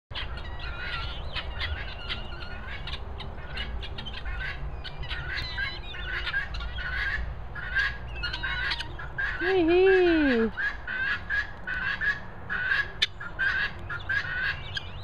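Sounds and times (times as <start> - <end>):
guineafowl squawking calls: 0.2 - 15.0.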